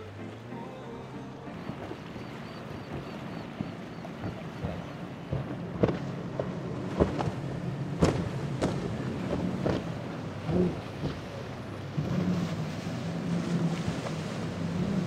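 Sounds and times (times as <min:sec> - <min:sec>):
hull slapping waves: 0:00.0 - 0:15.0
outboard engines droning: 0:00.0 - 0:15.0.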